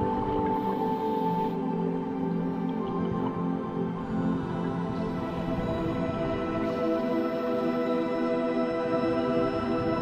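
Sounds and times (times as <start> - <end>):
ambient pad music: 0.0 - 10.0.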